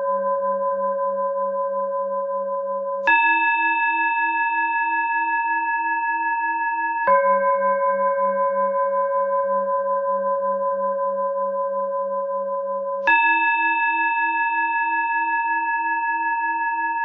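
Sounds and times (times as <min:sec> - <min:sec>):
singing bowl tones: 0:00.0 - 0:17.0.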